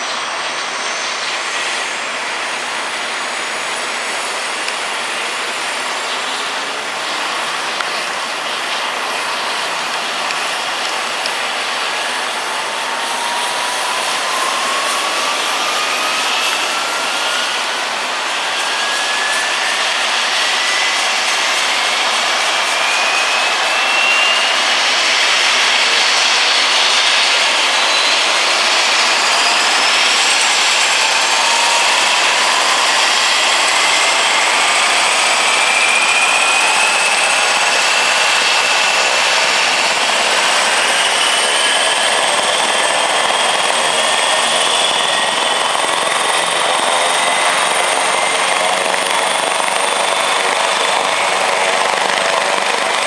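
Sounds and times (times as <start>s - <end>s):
helicopter turbine whine spooling up: 0.0s - 53.0s.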